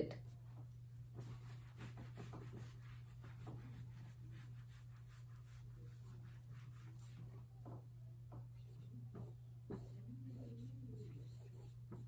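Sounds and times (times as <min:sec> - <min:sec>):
low electrical hum: 0:00.0 - 0:12.0
pen scratching on paper: 0:01.2 - 0:12.0.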